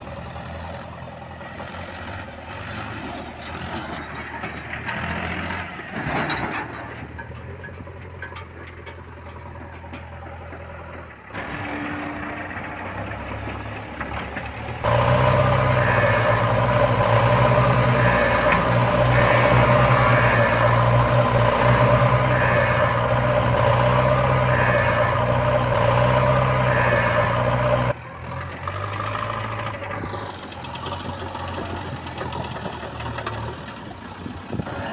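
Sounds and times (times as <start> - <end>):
heavy vehicle engines running: 0.0 - 34.9
rough-running diesel engine: 0.0 - 34.9.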